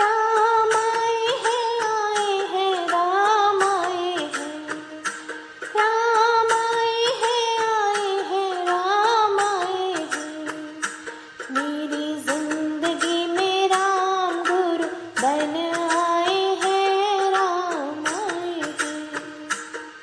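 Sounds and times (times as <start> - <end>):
woman singing devotional song: 0.0 - 19.7.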